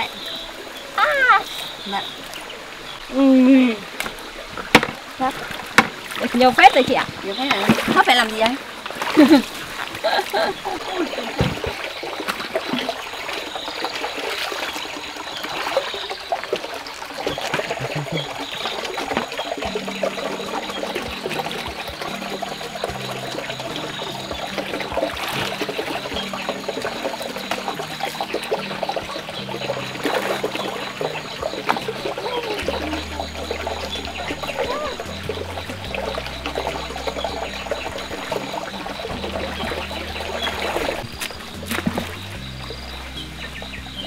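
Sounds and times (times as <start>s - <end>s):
stream trickling over rocks: 0.0s - 44.0s
stones splashing and knocking: 4.0s - 14.7s, 15.5s - 42.8s.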